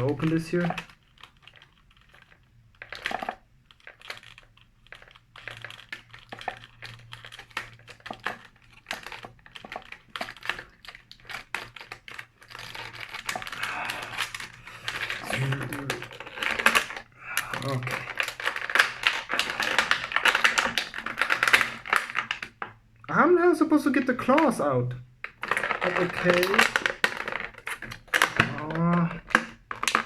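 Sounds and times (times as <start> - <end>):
packaging clicks and crinkles: 0.0 - 30.0.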